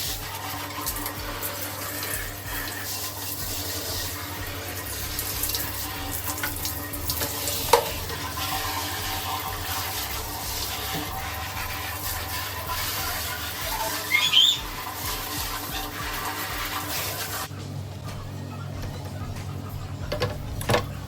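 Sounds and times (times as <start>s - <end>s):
steady low hum: 0.0s - 14.0s, 14.6s - 21.0s
water running and splashing: 0.0s - 17.5s.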